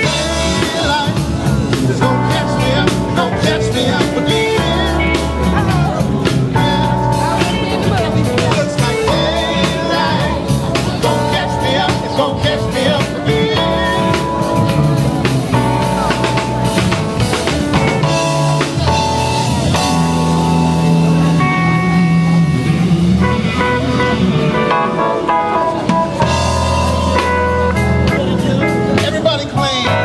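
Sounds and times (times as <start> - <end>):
drum kit: 0.0 - 30.0
electric guitars: 0.0 - 30.0
live band playing: 0.0 - 30.0.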